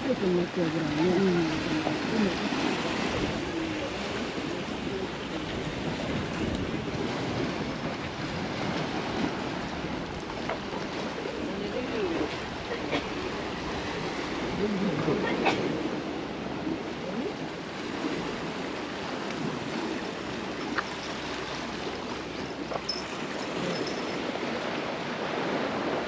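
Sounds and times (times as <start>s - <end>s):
sea waves on shore: 0.0s - 26.0s.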